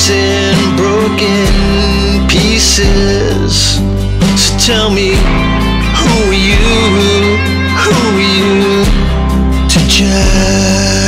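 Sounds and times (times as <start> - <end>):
pop song held note: 0.0 - 11.0
steady bass line: 0.0 - 11.0.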